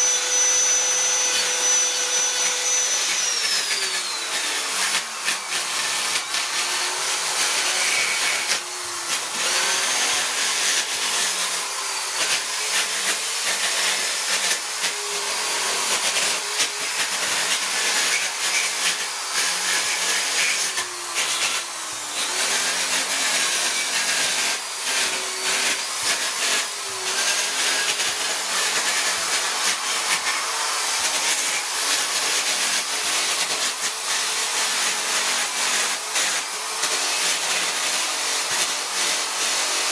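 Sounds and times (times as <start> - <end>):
power tool whirring: 0.0 - 39.9.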